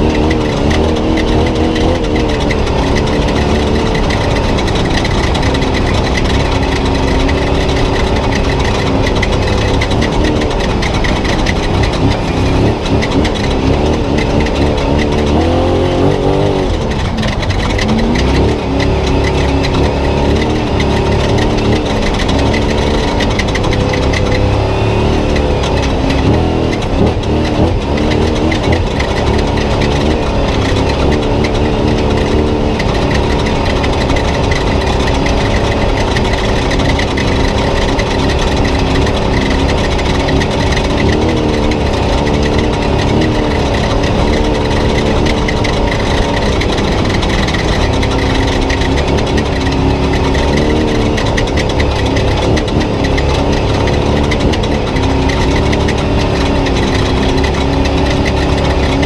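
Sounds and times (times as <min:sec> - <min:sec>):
constant rushing noise: 0:00.0 - 0:59.0
truck engine revving: 0:00.0 - 0:59.0.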